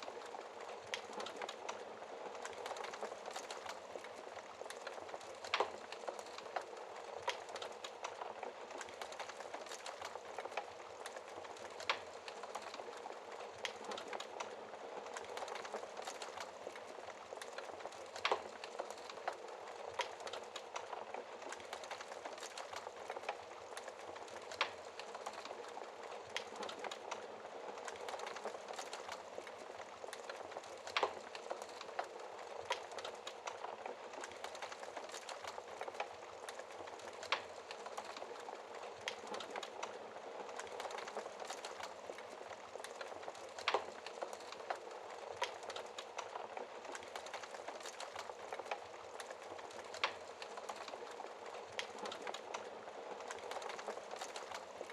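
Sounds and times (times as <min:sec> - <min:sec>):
logs crackling in fireplace: 0:00.0 - 0:54.9.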